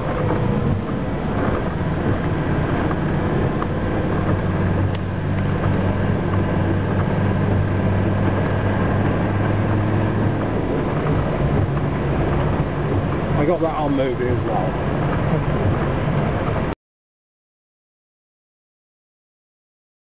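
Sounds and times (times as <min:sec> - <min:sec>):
car engine running: 0:00.0 - 0:16.7
road noise: 0:00.0 - 0:16.8.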